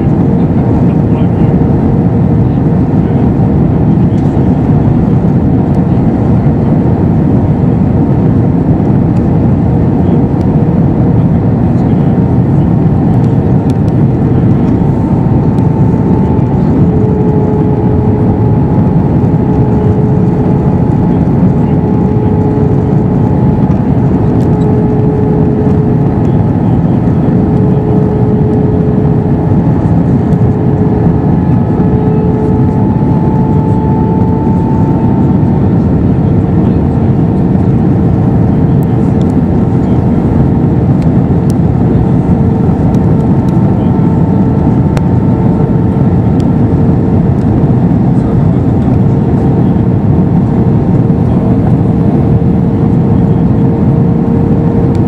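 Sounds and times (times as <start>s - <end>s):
airplane cabin drone: 0.0s - 55.0s
faint humming tone: 0.0s - 55.0s.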